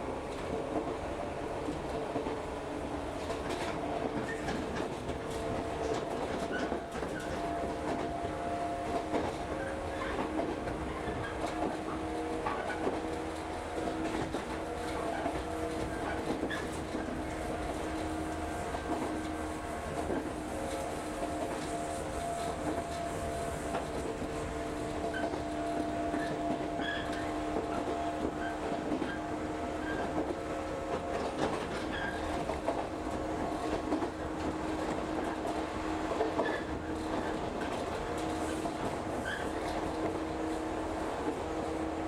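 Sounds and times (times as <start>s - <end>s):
constant train hum: 0.0s - 42.0s
train wheels rumbling on rail: 0.0s - 42.0s.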